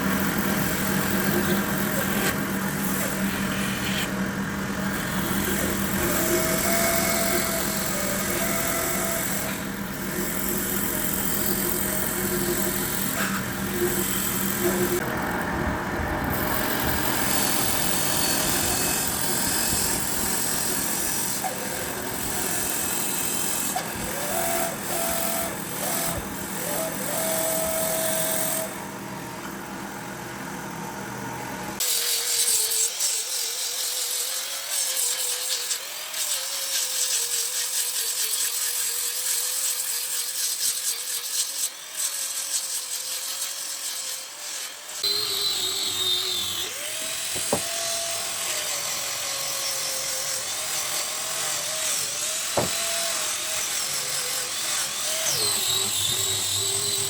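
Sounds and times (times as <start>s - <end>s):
power tool cutting wood: 0.0s - 28.9s, 31.8s - 57.0s.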